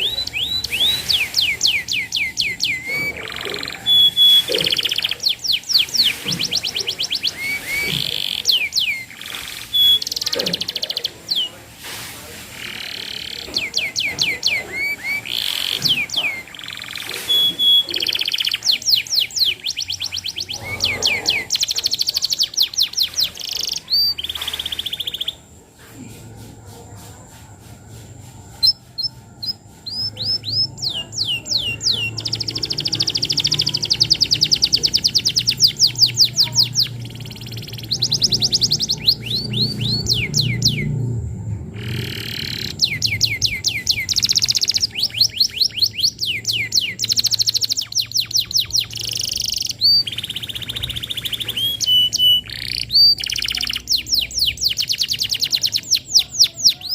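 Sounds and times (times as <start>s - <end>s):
canary singing trills: 0.0s - 25.8s, 27.9s - 56.9s.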